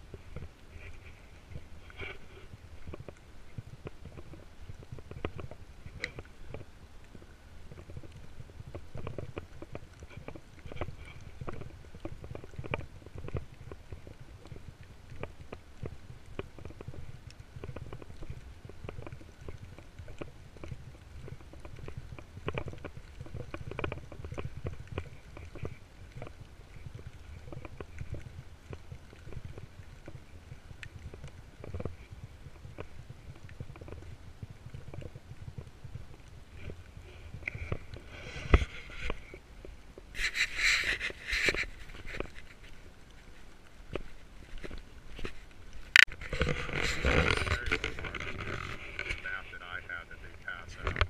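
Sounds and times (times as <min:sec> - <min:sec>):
camera movement rumble: 0:00.0 - 0:51.0.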